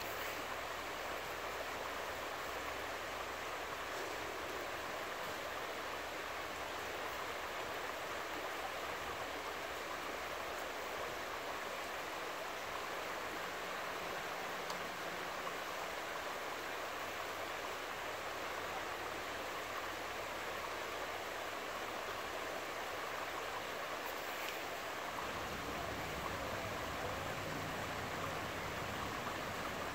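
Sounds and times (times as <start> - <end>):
river rushing over shallows: 0.0 - 29.9.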